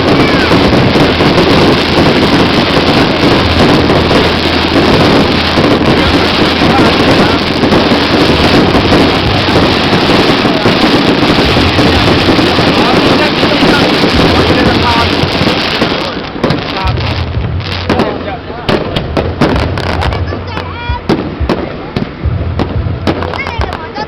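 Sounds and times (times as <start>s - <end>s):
fireworks crackling: 0.0s - 24.0s.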